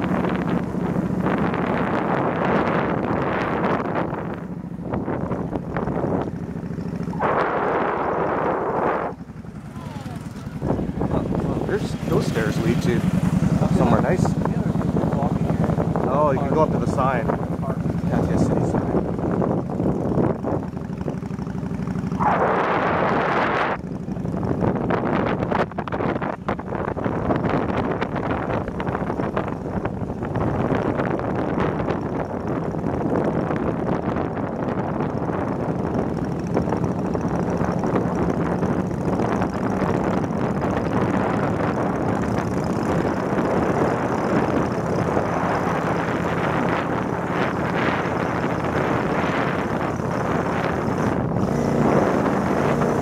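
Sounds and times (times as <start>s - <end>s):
motorbike engine rumble: 0.0s - 53.0s
wind buffeting microphone: 0.0s - 53.0s.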